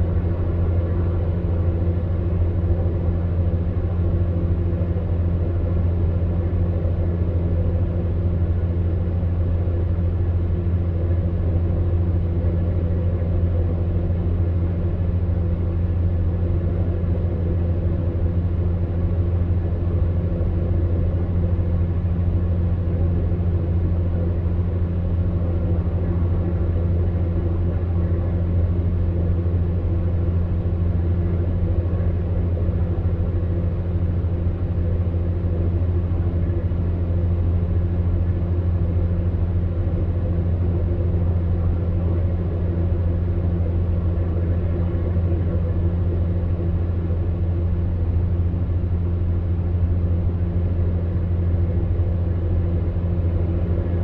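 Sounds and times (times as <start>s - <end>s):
fan heater humming: 0.0s - 54.0s.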